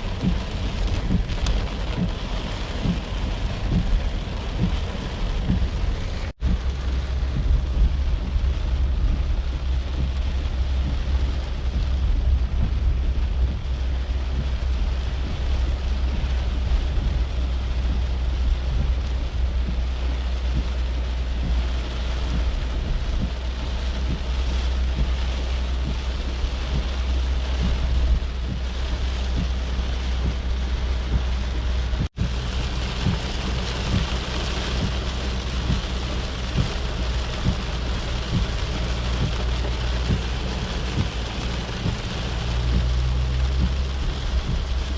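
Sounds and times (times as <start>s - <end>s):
car driving rumble: 0.0s - 44.9s
heavy rain: 0.0s - 44.9s.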